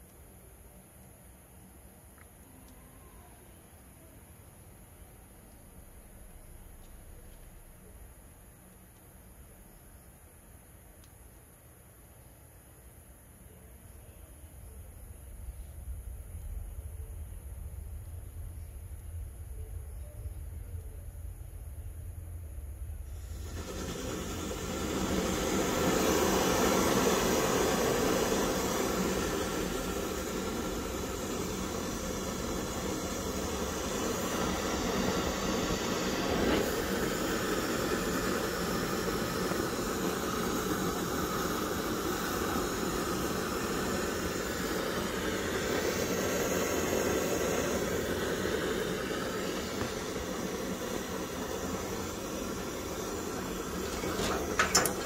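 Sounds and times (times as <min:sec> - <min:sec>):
stove burner flame hissing: 0:00.0 - 0:55.0.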